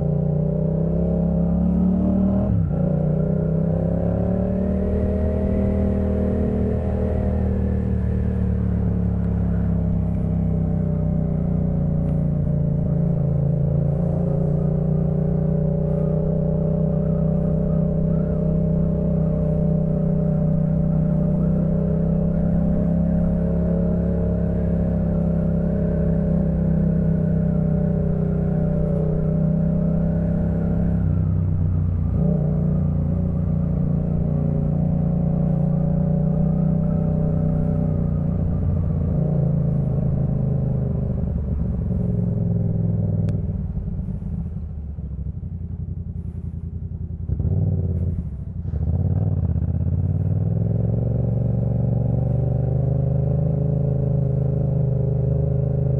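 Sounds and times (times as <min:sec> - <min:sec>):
motorcycle engine at steady revs: 0:00.0 - 0:55.9.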